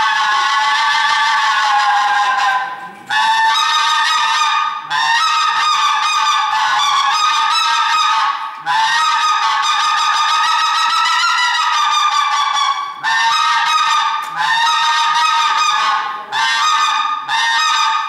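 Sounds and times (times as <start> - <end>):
mouth-blown hunting call: 0.0 - 18.0.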